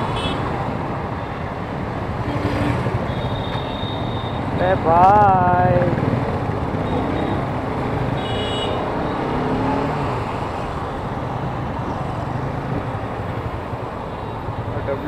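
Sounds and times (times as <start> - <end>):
traffic engines: 0.0 - 15.0.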